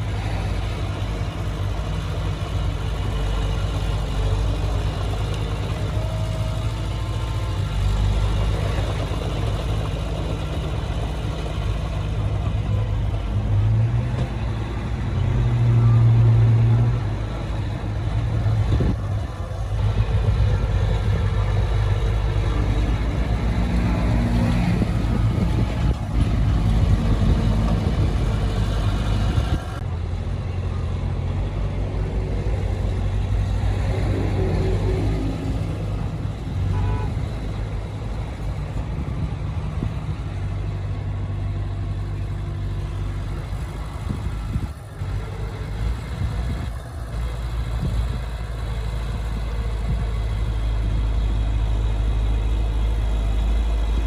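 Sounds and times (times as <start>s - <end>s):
diesel engine rumble: 0.0s - 54.0s.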